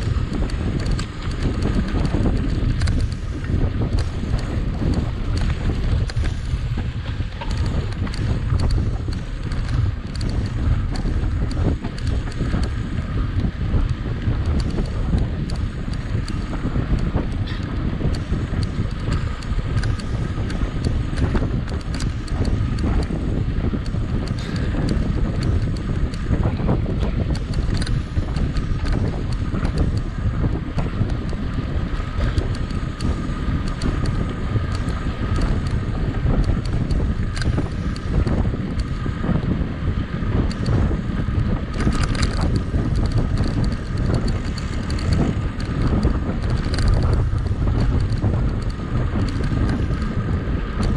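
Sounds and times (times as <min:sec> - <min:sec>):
bike clicks and rattles: 0:00.0 - 0:50.9
wind buffeting microphone: 0:00.0 - 0:50.9.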